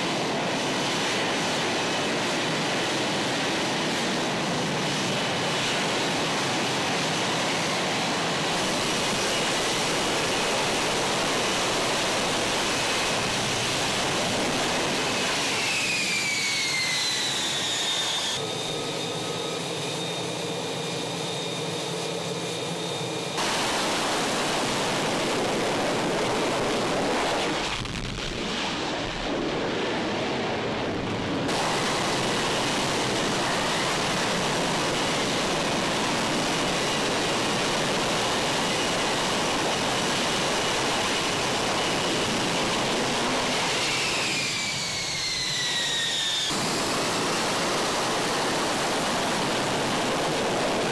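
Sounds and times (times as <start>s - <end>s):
loud jet noise: 0.0s - 50.9s
turbine whine: 0.0s - 50.9s.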